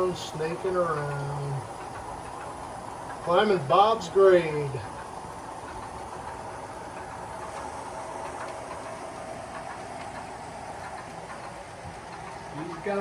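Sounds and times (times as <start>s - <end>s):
model train motors and wheels: 0.0s - 13.0s.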